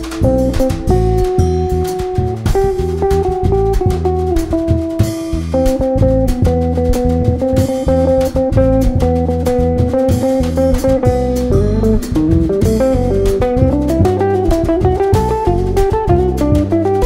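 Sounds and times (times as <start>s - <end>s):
bass guitar: 0.0s - 17.0s
drum kit: 0.0s - 17.0s
guitar melody: 0.0s - 17.0s.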